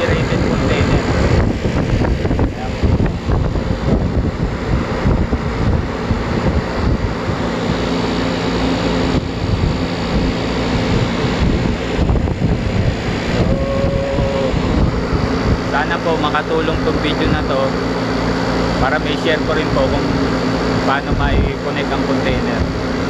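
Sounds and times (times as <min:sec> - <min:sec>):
refrigeration unit humming: 0:00.0 - 0:23.0
wind buffeting microphone: 0:00.0 - 0:23.0.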